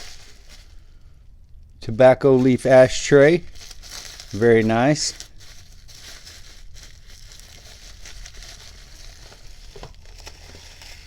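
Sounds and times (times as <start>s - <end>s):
packing material rustling: 0.0s - 1.2s, 2.2s - 11.0s.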